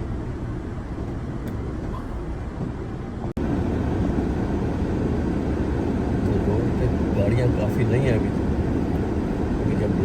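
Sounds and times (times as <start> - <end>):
car rumble from inside cabin: 0.0 - 10.0.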